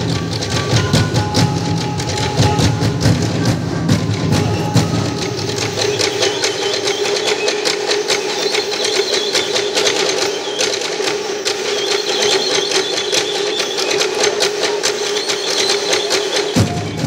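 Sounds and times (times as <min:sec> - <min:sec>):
wooden percussion clicking: 0:00.0 - 0:17.0.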